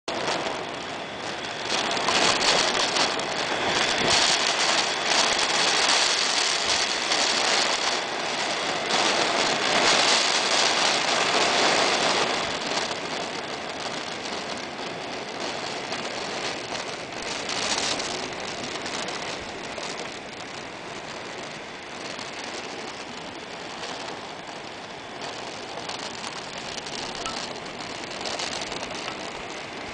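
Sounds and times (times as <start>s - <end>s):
storm wind and rain: 0.0s - 29.9s.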